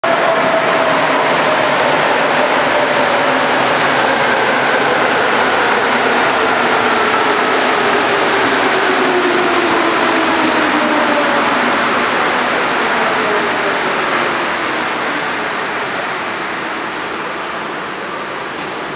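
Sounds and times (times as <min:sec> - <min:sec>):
metro train rumbling: 0:00.0 - 0:18.9.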